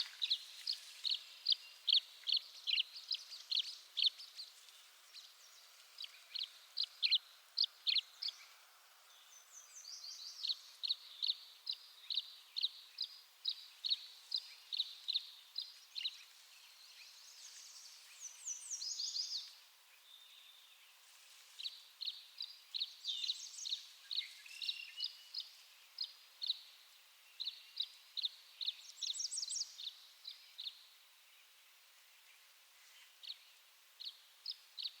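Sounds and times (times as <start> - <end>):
bird chirping: 0.0 - 21.0, 21.6 - 31.6.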